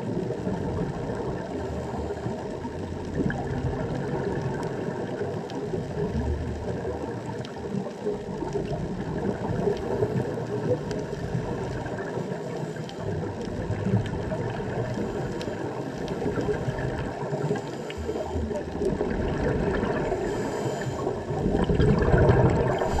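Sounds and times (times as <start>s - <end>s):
faint underwater clicks: 0.0s - 23.0s
muffled underwater water rush: 0.0s - 23.0s.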